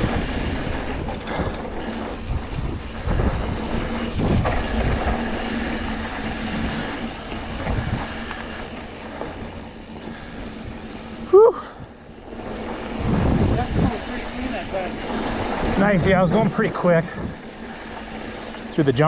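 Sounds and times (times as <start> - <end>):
bike thumping over bumps: 0.0 - 16.4
bike rattling: 0.0 - 19.0
bike tyres rolling over dirt: 0.0 - 19.0.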